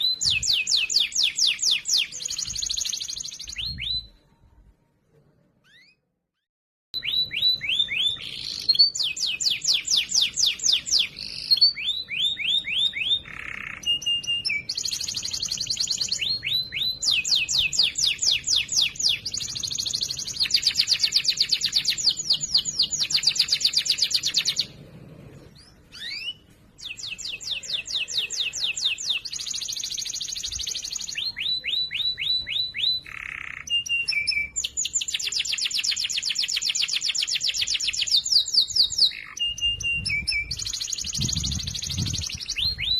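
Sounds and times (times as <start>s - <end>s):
canary singing: 0.0s - 4.2s, 5.6s - 6.0s, 7.0s - 42.9s.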